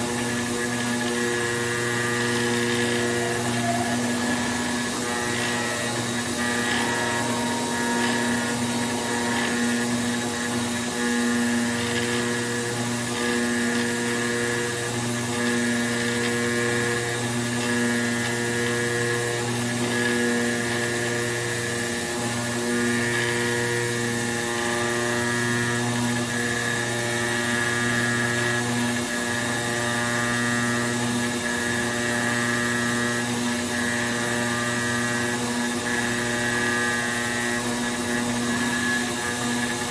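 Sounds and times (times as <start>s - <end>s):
router spindle humming and whining: 0.0s - 39.9s.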